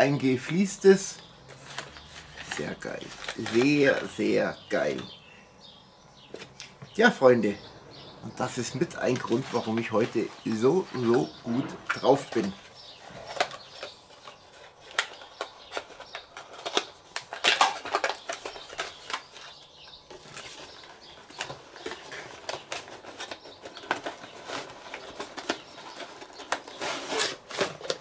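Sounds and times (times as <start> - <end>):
paper and cardboard rustling: 0.4 - 5.1, 8.3 - 28.0.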